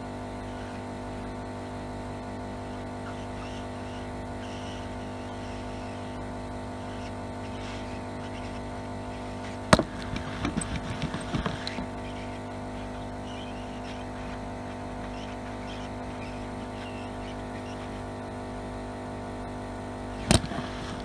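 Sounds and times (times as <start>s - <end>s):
hot-air welder blower humming: 0.0s - 21.0s.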